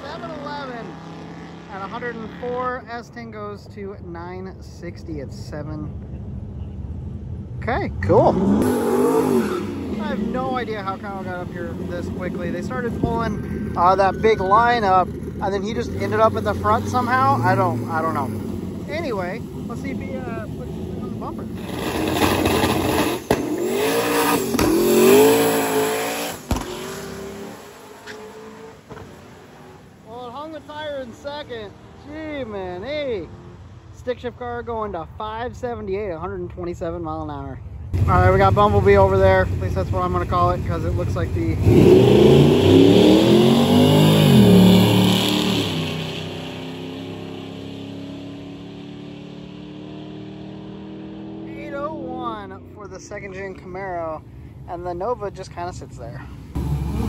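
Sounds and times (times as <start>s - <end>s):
drag car accelerating: 0.0s - 2.8s, 8.0s - 33.8s, 38.0s - 54.0s, 55.4s - 57.0s.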